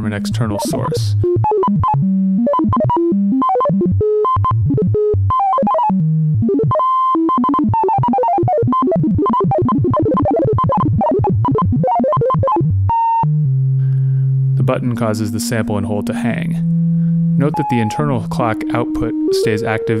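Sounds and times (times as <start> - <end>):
synthesizer random pitches: 0.0 - 20.0.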